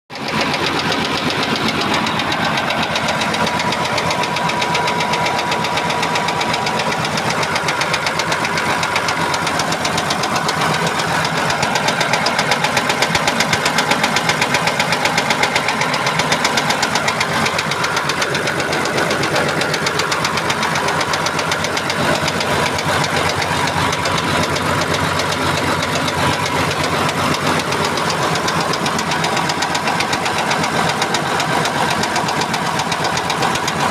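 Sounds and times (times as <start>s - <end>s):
engine knocking rapidly: 0.1s - 33.9s.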